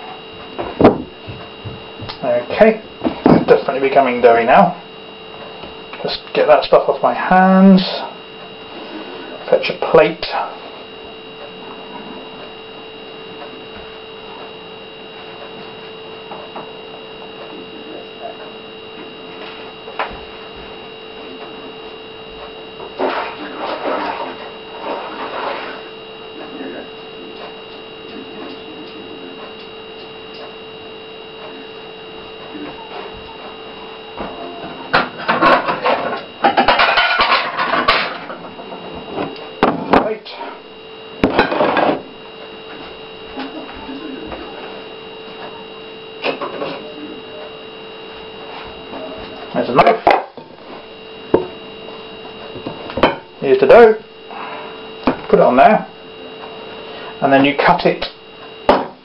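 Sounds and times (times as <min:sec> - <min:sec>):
electrical whine: 0:00.0 - 0:59.0.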